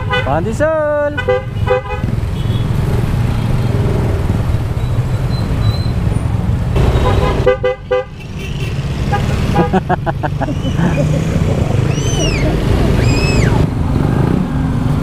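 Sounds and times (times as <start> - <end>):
wind and road rumble: 0.0 - 15.0.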